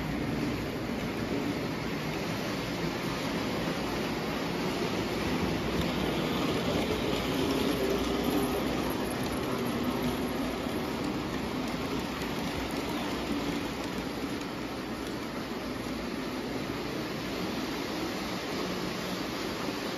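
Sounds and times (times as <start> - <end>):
model train wheels rolling on track: 0.0 - 19.9.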